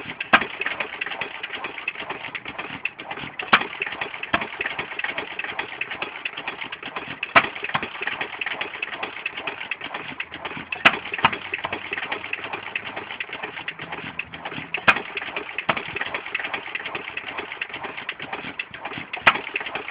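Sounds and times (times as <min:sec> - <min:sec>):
engine sharp crack: 0:00.0 - 0:19.9
stationary engine idling clatter: 0:00.0 - 0:19.9.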